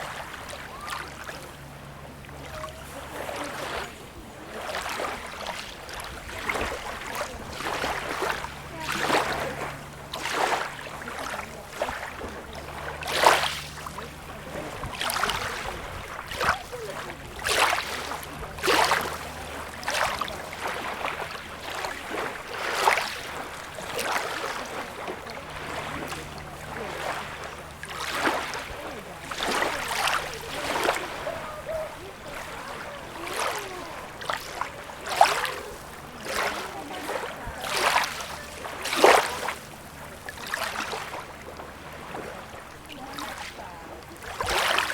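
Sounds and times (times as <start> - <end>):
small waves lapping on beach: 0.0 - 44.9.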